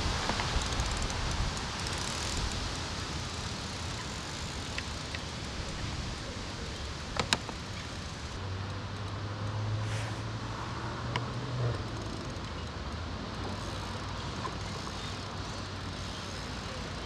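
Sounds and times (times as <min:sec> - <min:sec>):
low engine hum: 0:00.0 - 0:17.0
outdoor rushing noise: 0:00.0 - 0:17.0.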